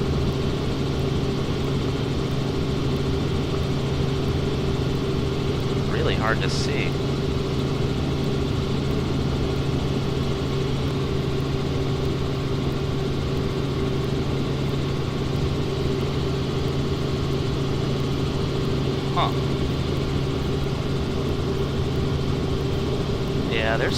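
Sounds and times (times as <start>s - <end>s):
helicopter engine and rotor drone: 0.0s - 23.9s.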